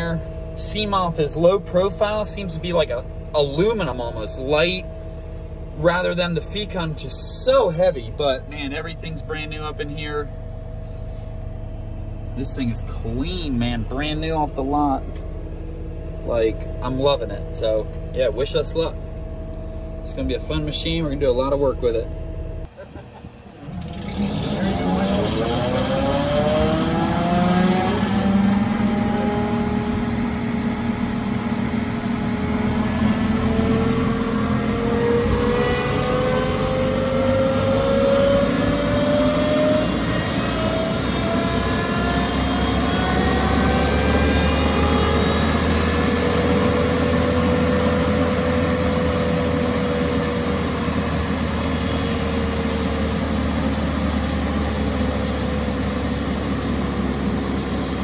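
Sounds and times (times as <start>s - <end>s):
deep hum: 0.0s - 58.0s
diesel engine revving: 0.0s - 58.0s
hydraulic whine: 0.0s - 58.0s.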